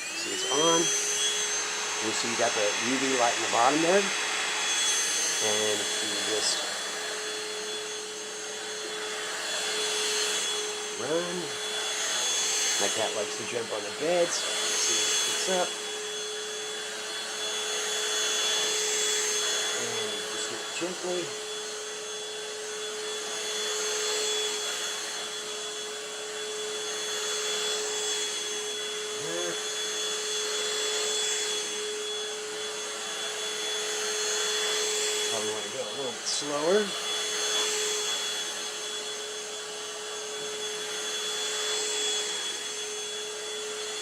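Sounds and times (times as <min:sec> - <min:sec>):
handheld vacuum running: 0:00.0 - 0:44.0.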